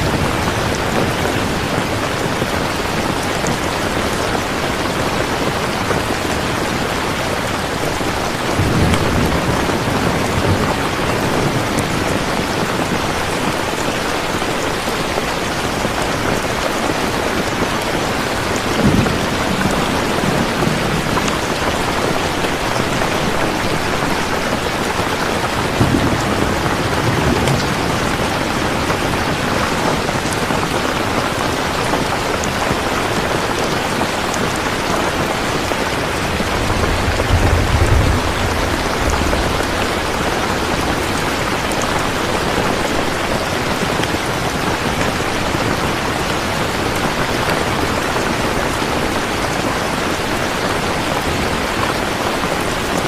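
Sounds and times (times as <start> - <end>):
thunder rumbles: 0.0 - 45.6
steady rain hiss: 0.0 - 53.0.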